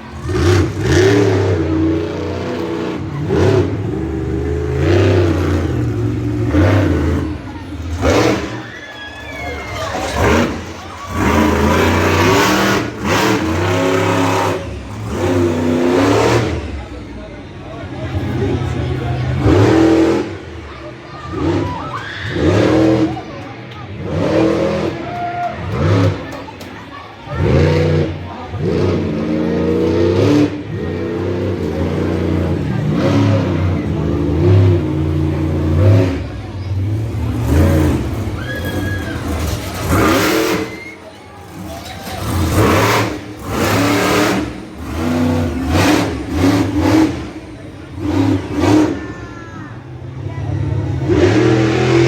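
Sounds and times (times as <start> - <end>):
truck engine revving hard: 0.0 - 52.0.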